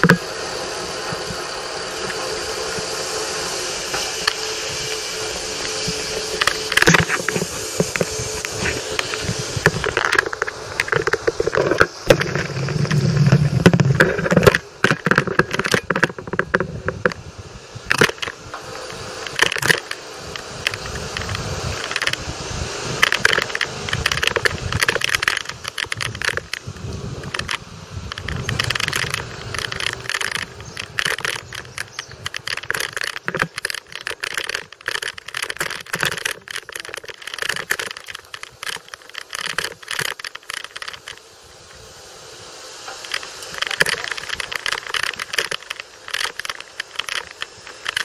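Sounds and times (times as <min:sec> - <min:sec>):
bicycle rattling and clicking: 0:00.0 - 0:48.0.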